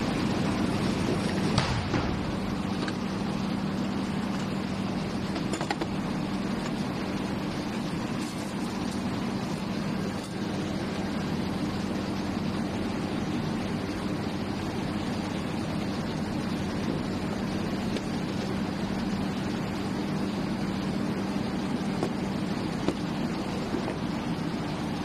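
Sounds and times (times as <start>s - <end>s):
broad rushing noise: 0.0s - 25.0s
steady mechanical hum: 0.0s - 25.0s.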